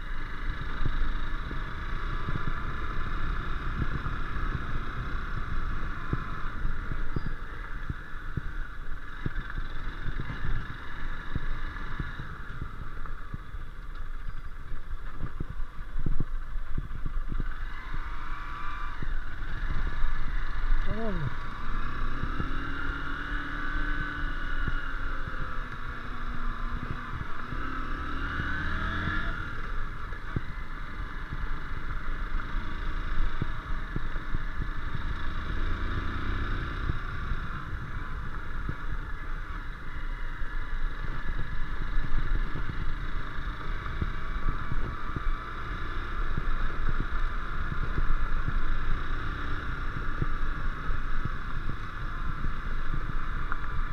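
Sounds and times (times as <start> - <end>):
motorcycle engine running: 0.0 - 53.9
wind rumble on microphone: 0.0 - 53.9.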